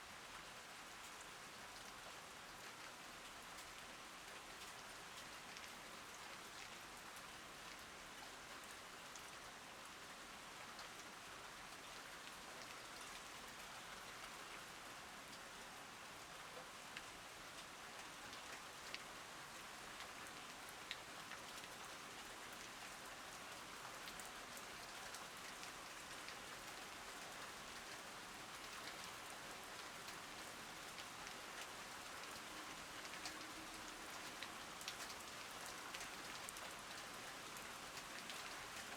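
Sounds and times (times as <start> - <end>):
rain falling on plants: 0.0 - 38.9.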